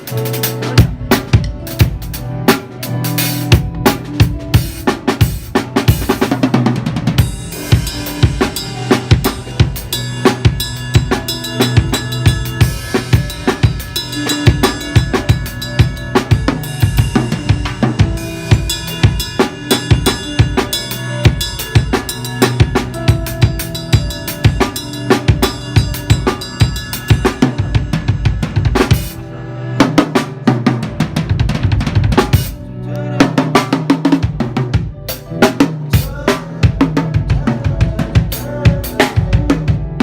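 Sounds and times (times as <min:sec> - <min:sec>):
drum kit groove: 0:00.0 - 0:40.0.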